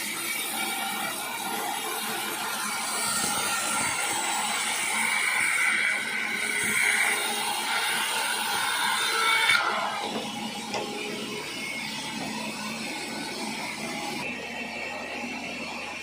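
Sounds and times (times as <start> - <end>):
sawmill saw cutting wood: 0.0 - 16.0.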